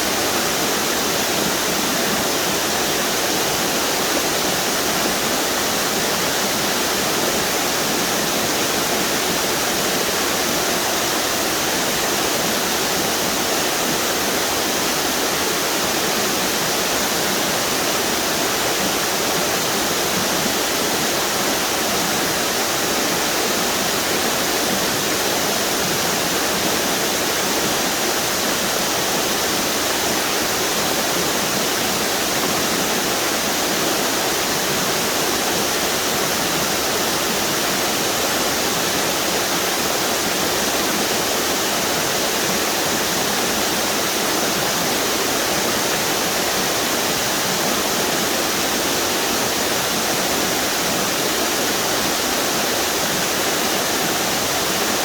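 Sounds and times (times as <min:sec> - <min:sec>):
river water over waterfalls: 0:00.0 - 0:55.0.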